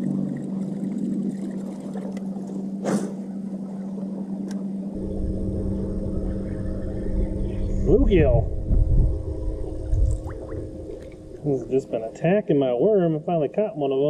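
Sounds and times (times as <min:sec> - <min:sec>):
electric trolling motor humming: 0:00.0 - 0:14.0
low rumble: 0:00.0 - 0:14.0.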